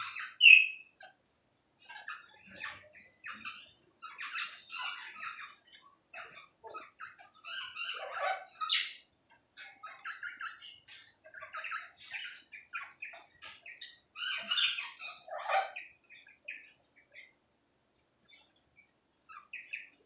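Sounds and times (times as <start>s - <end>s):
caged birds squawking and chirping: 0.0s - 20.0s.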